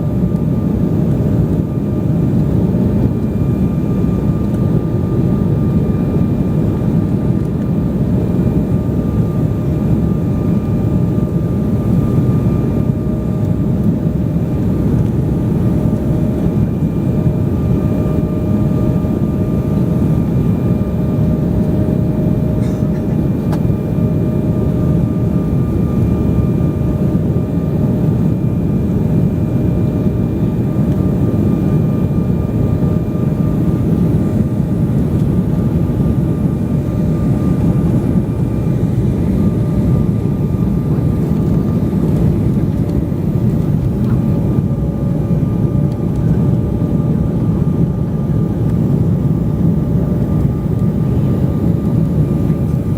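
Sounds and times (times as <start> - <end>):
airliner engines rumbling: 0.0 - 52.9.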